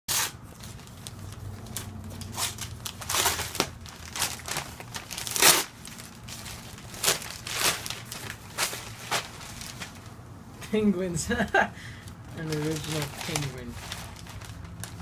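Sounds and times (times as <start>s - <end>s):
paper packaging crinkling: 0.1s - 10.2s, 12.0s - 15.0s.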